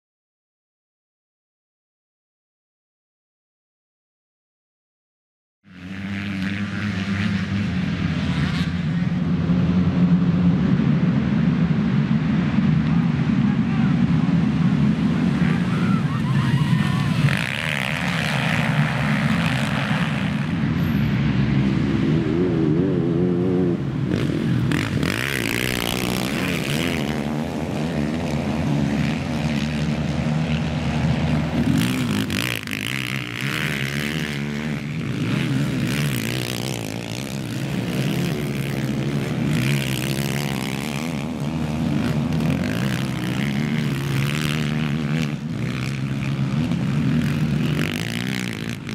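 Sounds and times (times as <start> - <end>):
racing quad engines revving: 5.7 - 48.9.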